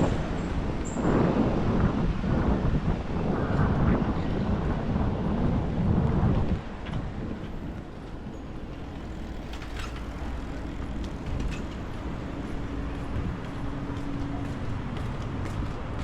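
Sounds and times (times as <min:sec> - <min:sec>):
rumble of passing vehicles: 0:00.0 - 0:16.0
wind on microphone: 0:00.0 - 0:16.0.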